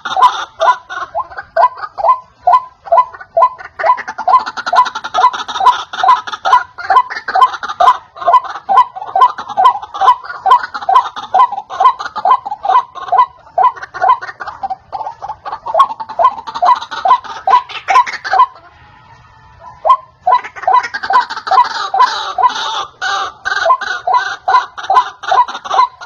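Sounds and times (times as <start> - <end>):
waterhen calling harsh notes: 0.0 - 26.0.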